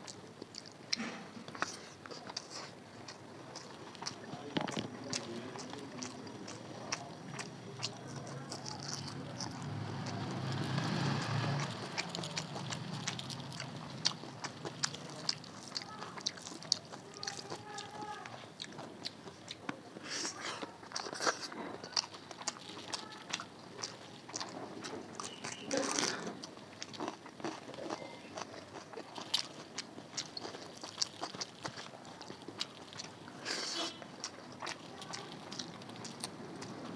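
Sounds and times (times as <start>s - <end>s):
person chewing food: 0.0s - 36.9s.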